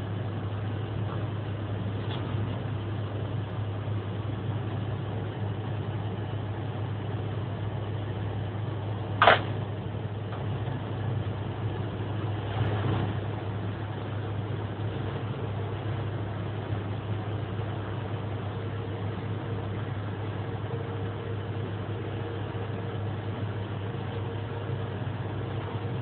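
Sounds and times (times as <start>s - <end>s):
train cab low hum: 0.0s - 26.0s
train rumble: 0.0s - 26.0s.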